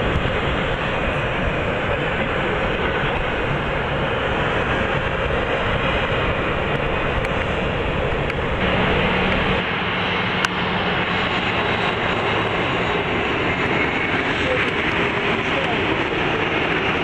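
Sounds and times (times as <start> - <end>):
jet engines at high thrust: 0.0 - 17.0.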